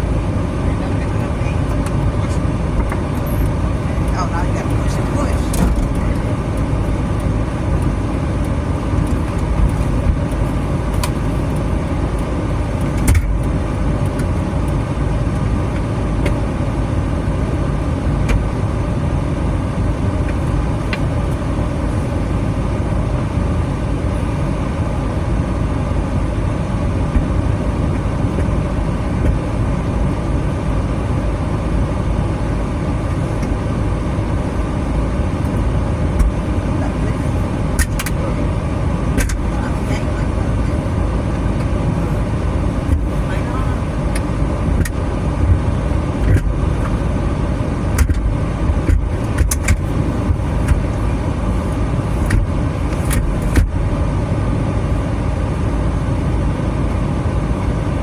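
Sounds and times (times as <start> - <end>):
minivan road and engine rumble: 0.0 - 58.0.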